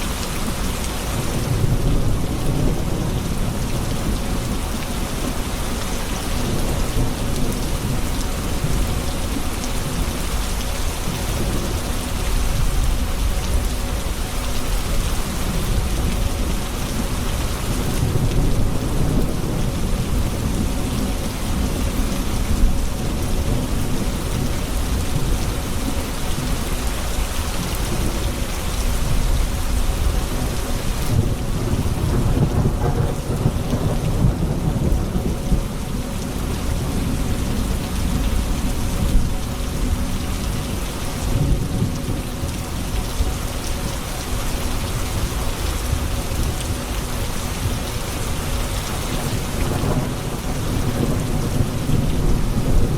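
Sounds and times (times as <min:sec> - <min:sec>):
heavy rain: 0:00.0 - 0:52.9
thunder rumbling: 0:00.4 - 0:44.2, 0:45.1 - 0:52.9.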